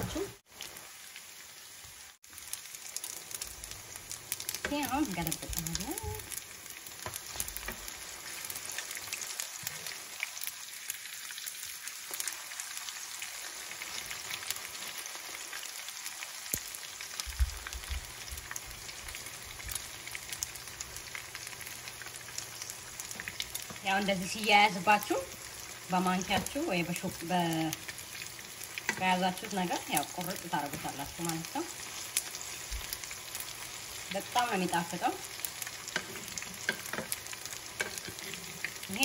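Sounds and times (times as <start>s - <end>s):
fritters sizzling in oil: 0.0s - 39.0s.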